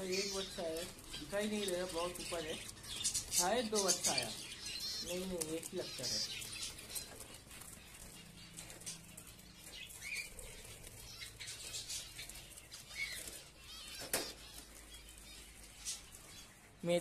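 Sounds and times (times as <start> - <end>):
wings fluttering: 0.0 - 16.9
birds chirping: 0.0 - 17.0.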